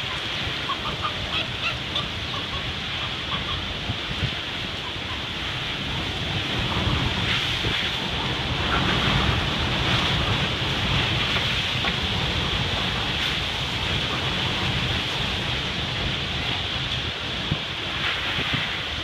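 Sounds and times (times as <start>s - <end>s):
heavy rain pouring: 0.0s - 19.0s
wind gusts on microphone: 0.0s - 19.0s.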